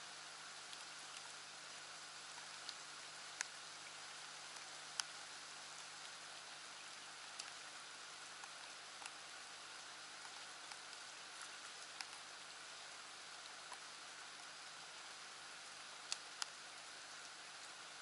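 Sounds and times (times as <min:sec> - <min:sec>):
steady rain hiss: 0:00.0 - 0:18.0
single raindrops ticking: 0:00.5 - 0:18.0.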